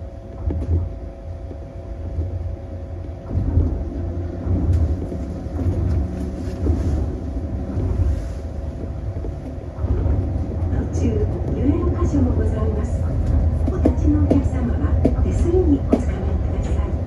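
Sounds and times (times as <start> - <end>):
train bumps: 0.0 - 17.0
train rumbling: 0.0 - 17.0.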